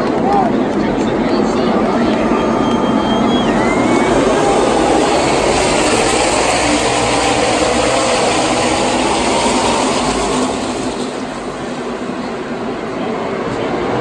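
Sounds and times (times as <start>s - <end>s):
race cars passing at speed: 0.0s - 14.0s.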